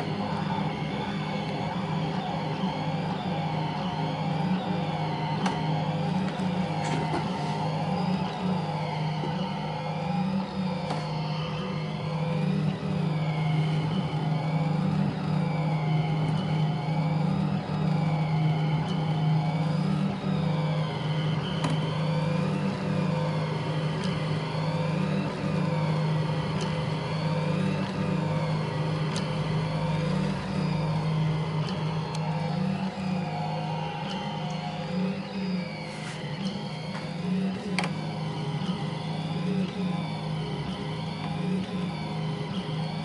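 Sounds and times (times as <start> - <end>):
stepper motors whining: 0.0 - 43.0.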